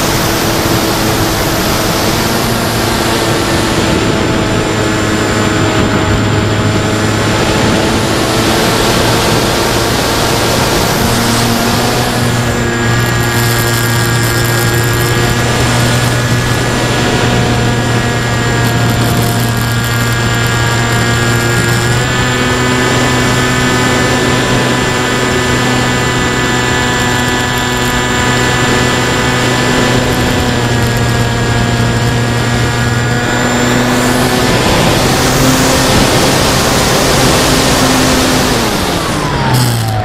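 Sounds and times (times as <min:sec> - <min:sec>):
electric motor buzzing whine: 0:00.0 - 0:40.0
wind rush: 0:00.0 - 0:40.0.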